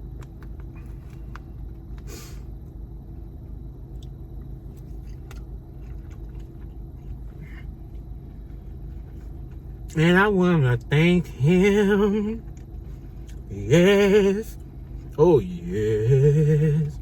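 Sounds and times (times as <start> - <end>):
low rumble with hum: 0.0 - 17.0.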